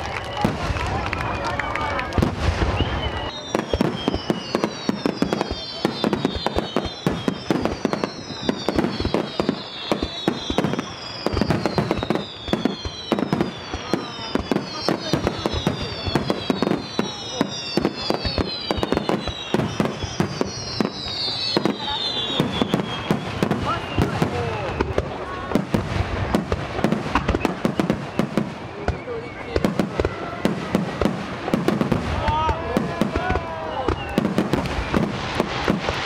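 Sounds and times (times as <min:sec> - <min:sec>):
falling fireworks whistles: 0:00.0 - 0:36.0
fireworks bangs: 0:00.0 - 0:36.0.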